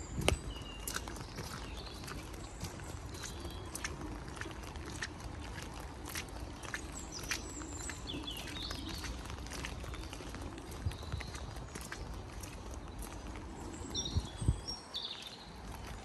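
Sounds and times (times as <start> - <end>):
birds chirping: 0.0 - 16.0
rain hiss and rumble: 0.0 - 16.0.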